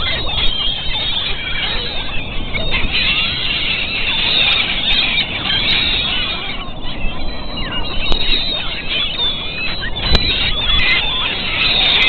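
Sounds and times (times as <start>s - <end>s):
flock of gulls calling: 0.0s - 12.0s.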